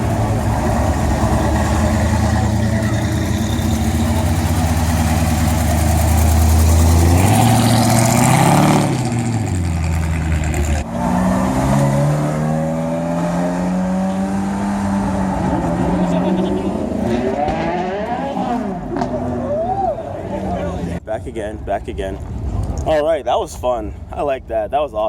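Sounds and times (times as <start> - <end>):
car engine accelerating: 0.0 - 21.0
car engines running: 0.0 - 23.2.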